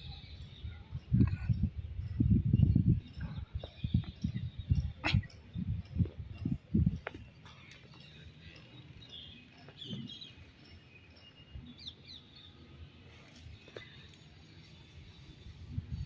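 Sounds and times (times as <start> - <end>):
wild birds chirping faintly: 0.0 - 16.0.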